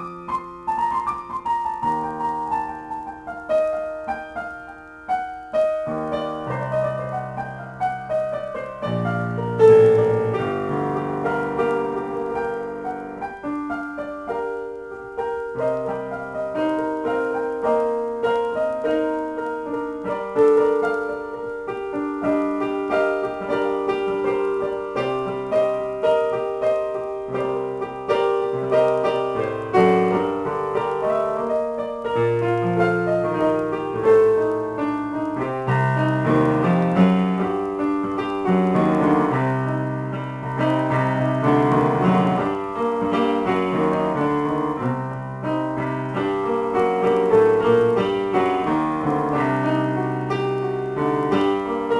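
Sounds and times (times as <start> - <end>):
keyboard piano melody over chords: 0.0 - 51.9.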